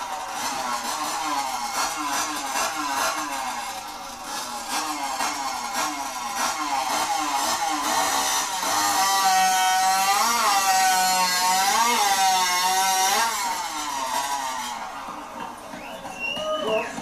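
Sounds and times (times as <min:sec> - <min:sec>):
chainsaw cutting through log: 0:00.0 - 0:15.1.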